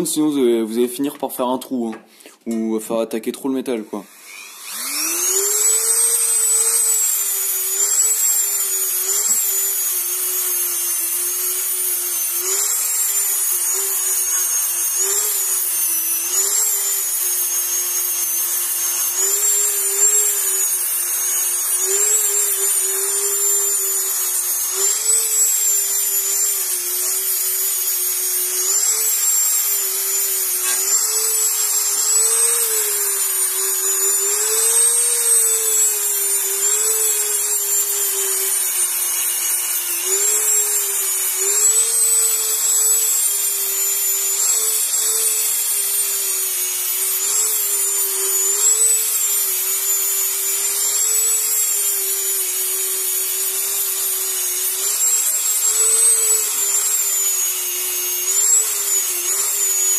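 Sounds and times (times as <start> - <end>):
rotary tool whining: 3.9 - 59.9.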